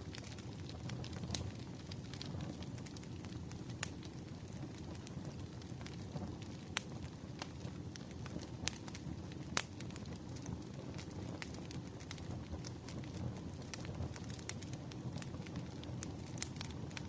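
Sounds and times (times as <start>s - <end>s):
fire rushing: 0.0s - 17.0s
logs crackling and popping: 0.0s - 17.0s.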